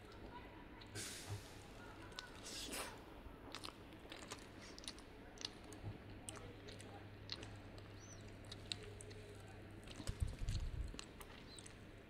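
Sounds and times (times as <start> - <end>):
close chewing with mouth clicks: 1.9 - 12.0.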